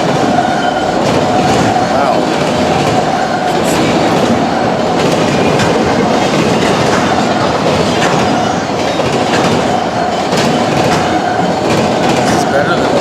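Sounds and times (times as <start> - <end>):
steady whine: 0.0 - 13.0
train rumble: 0.0 - 13.0
train wheels clattering over rail joints: 0.0 - 13.0.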